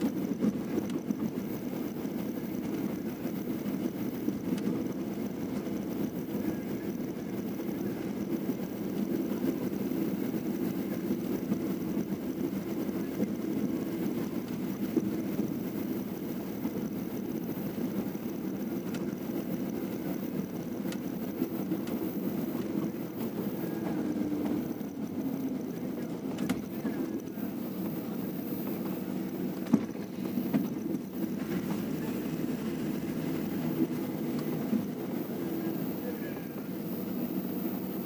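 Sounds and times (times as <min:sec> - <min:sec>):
vehicle engine and road rumble: 0:00.0 - 0:38.0.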